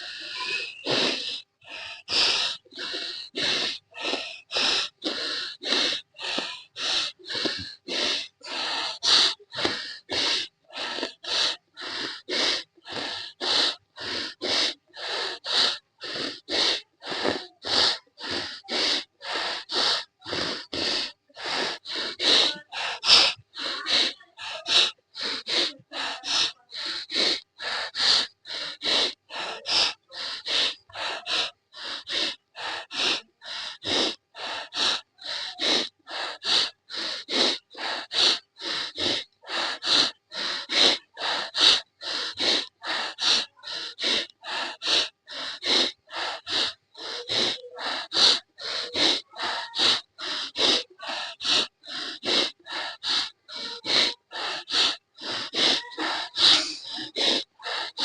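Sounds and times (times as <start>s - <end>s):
forceful breathing through nose: 0.0s - 58.0s.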